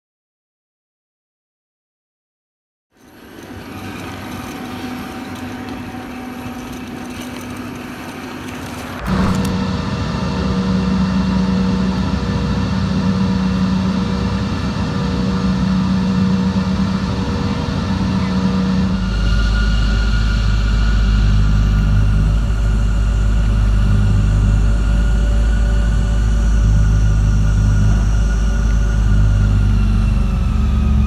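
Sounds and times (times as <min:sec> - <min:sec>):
vehicle engine drone: 0:03.0 - 0:31.0.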